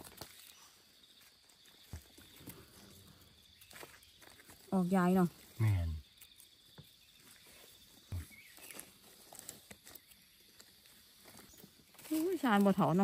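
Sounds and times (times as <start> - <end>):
footsteps on forest floor: 0.0 - 13.0.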